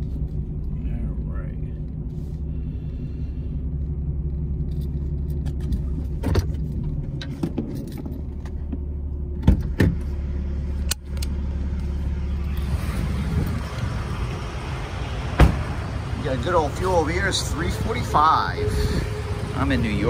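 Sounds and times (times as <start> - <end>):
diesel truck engine idling: 0.0 - 7.4, 8.1 - 20.0
outside noise: 0.0 - 20.0.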